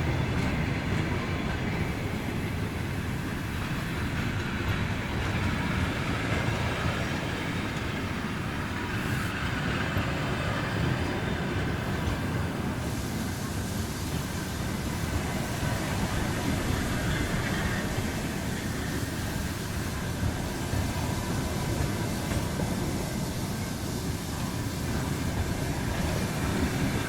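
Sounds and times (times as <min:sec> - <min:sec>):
locomotive rumbling: 0:00.0 - 0:27.0.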